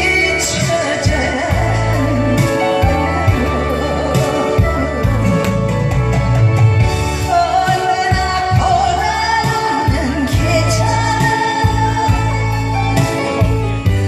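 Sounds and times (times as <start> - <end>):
woman singing: 0.0 - 6.0, 7.2 - 13.9
backing music with steady beat: 0.0 - 14.0.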